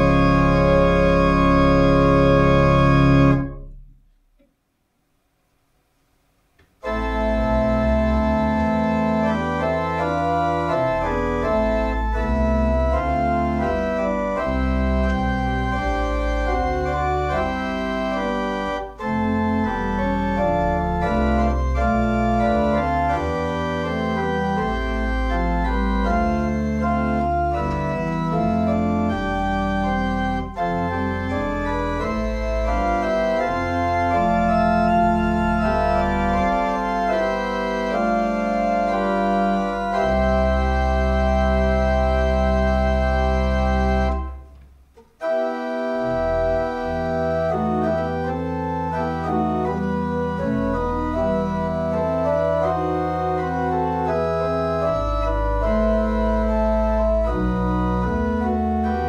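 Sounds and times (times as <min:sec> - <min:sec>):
pipe organ playing chords: 0:00.0 - 0:04.0, 0:06.8 - 0:59.0.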